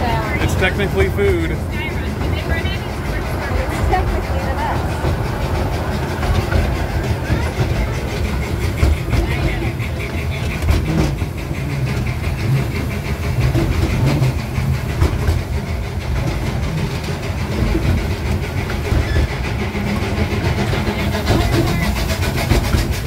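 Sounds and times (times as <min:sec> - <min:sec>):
ride-on train rumbling on rails: 0:00.0 - 0:23.0.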